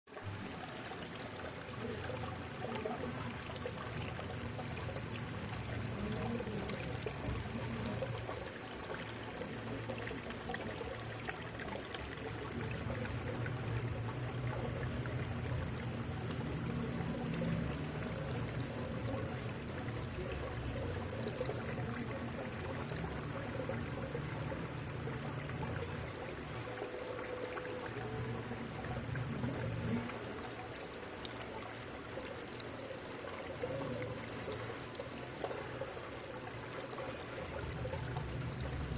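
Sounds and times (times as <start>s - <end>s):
water pouring into pond: 0.1s - 38.9s.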